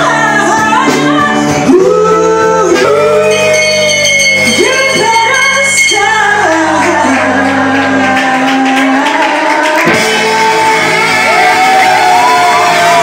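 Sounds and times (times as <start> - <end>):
drums: 0.0 - 13.0
electric bass: 0.0 - 13.0
person singing: 0.0 - 13.0.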